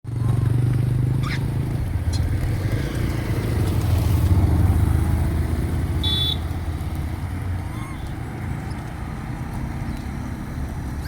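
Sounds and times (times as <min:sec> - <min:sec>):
vehicle engine rumbling: 0:00.1 - 0:11.0.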